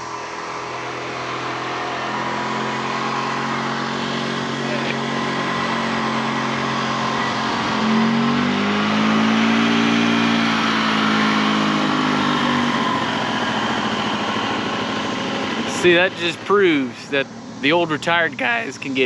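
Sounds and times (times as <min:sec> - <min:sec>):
golf cart engine running: 0:00.0 - 0:19.0.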